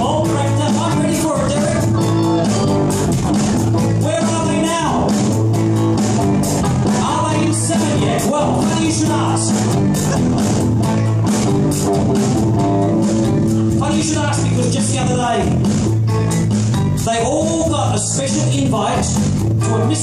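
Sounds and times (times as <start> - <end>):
guitar lead line bending: 0.0 - 17.1
live rock band playing: 0.0 - 20.0.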